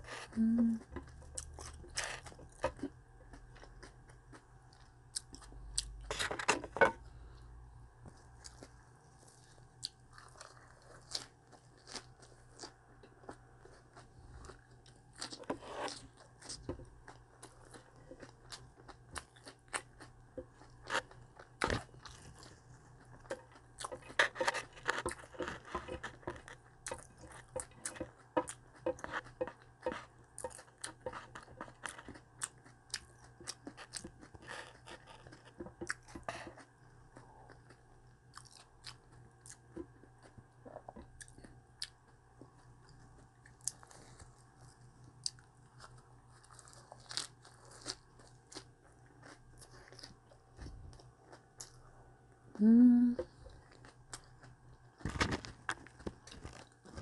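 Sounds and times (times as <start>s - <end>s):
chewing and crunching vegetables: 0.0s - 7.4s, 8.1s - 51.9s, 53.2s - 57.0s
steady low hum: 0.0s - 57.0s.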